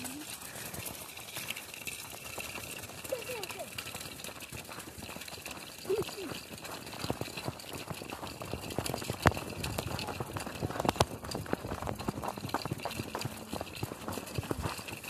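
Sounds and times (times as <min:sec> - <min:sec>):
footsteps crunching on snowy gravel: 0:00.1 - 0:15.0.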